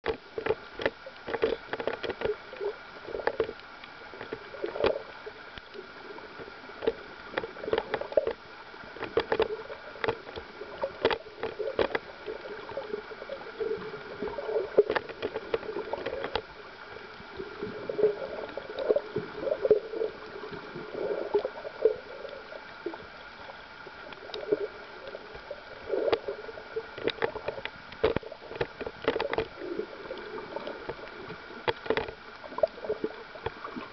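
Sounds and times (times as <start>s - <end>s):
underwater gurgling and bubbling: 0.0s - 33.9s.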